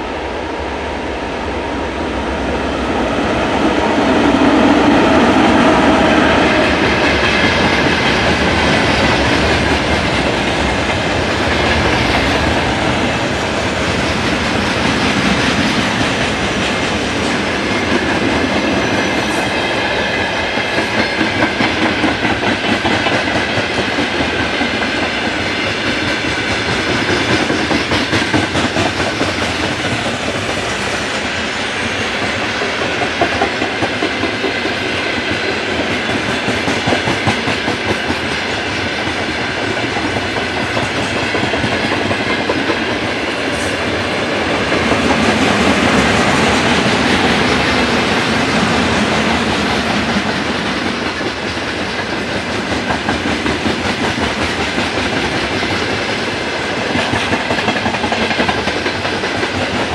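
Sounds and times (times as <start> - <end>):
steel wheels rumbling on rail: 0.0 - 59.9
wheels clickety-clack on rail joints: 3.0 - 59.9.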